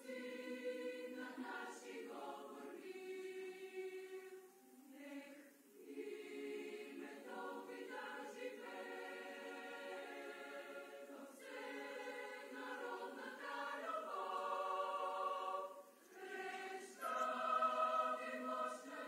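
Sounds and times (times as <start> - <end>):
girls' choir singing: 0.0 - 19.0.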